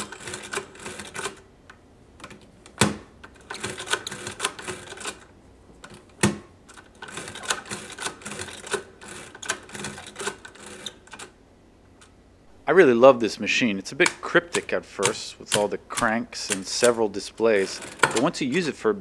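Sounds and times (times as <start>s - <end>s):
adding machine clicking: 0.0s - 1.5s, 2.2s - 11.3s, 14.0s - 18.6s.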